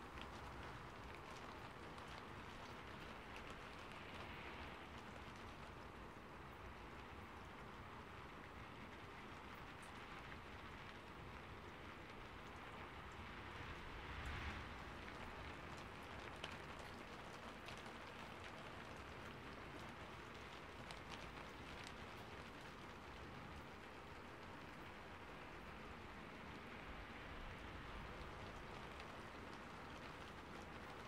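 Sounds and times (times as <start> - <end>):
faint steady rain: 0.0 - 31.0
sharp water drips: 0.0 - 31.0.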